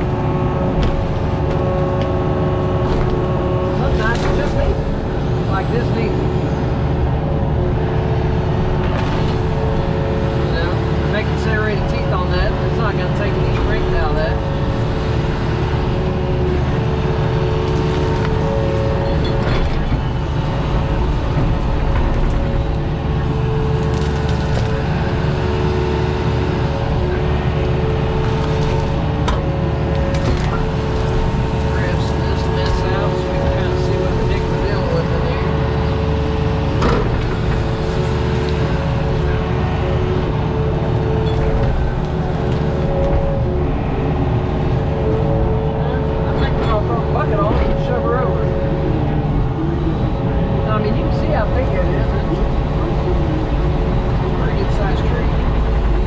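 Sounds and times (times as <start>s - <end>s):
diesel machine running: 0.0s - 56.0s
hydraulic whine: 0.0s - 56.0s
wood cracking and splintering: 0.0s - 56.0s.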